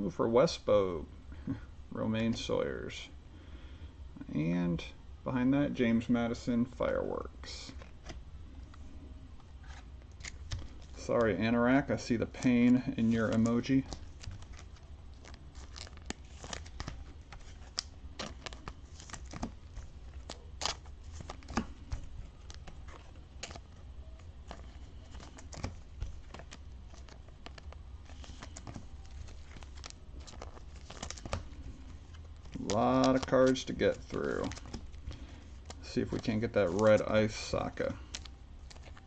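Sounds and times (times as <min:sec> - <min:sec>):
low steady hum: 0:00.0 - 0:39.0
plastic card sleeves crinkling: 0:07.6 - 0:39.0
trading cards rustling: 0:07.6 - 0:39.0.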